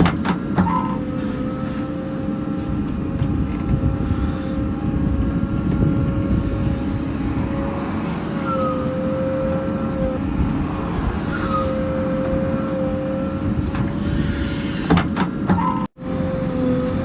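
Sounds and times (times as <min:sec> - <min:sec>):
diesel engine rumbling: 0:00.0 - 0:17.0
engine whine: 0:00.0 - 0:17.0.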